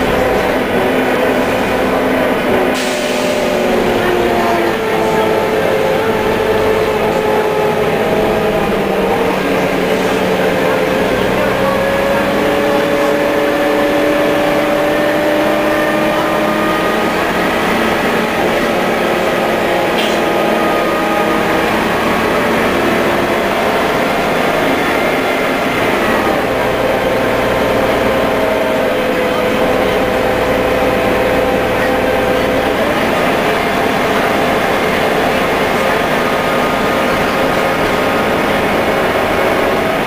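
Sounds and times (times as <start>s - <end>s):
bus engine whine: 0.0s - 40.0s.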